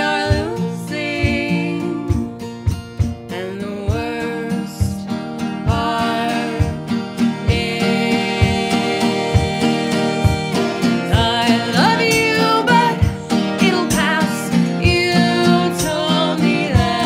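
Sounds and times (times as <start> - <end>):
acoustic guitars strummed: 0.0 - 17.0
women singing: 0.0 - 17.0.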